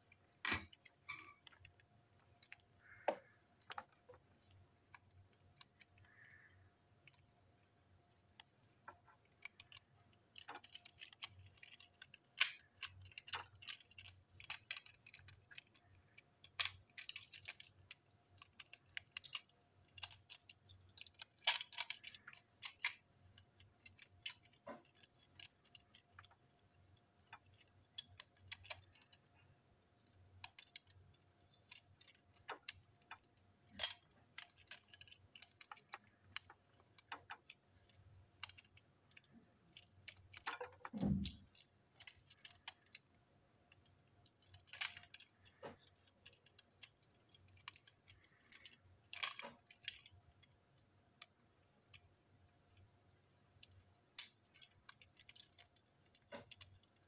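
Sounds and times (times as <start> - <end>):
plastic toy parts clicking: 0.0 - 57.0.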